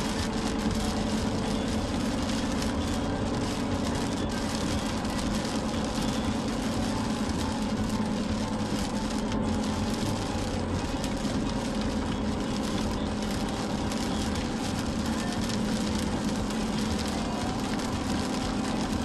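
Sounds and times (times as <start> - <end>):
car engine drone: 0.0 - 19.0
heavy rain on car: 0.0 - 19.0
wet tyres on road: 0.0 - 19.0.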